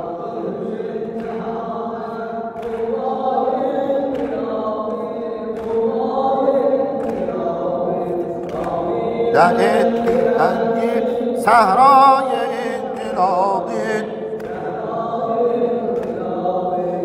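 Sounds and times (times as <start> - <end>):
voices chanting a mourning lament: 0.0 - 17.0.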